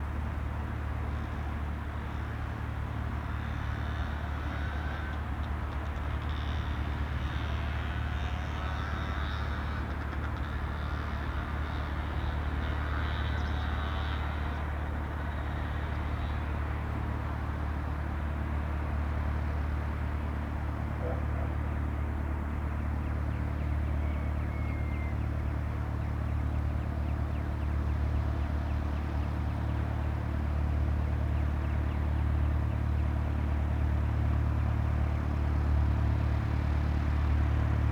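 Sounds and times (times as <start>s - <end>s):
distant aircraft engine drone: 0.0s - 37.9s.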